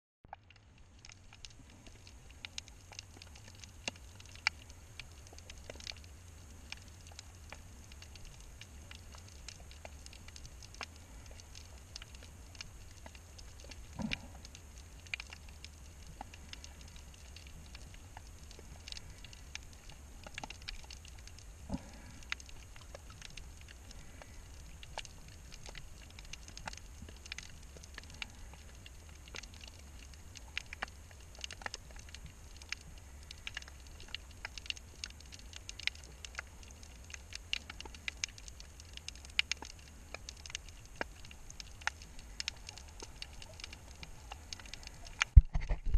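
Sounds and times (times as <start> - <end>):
low underwater rumble: 0.3 - 45.9
underwater crackle of clicks: 0.3 - 45.9.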